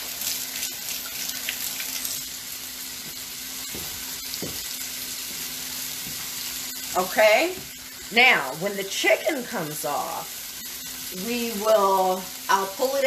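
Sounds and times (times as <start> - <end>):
sprouts sizzling in a pan: 0.0 - 13.0.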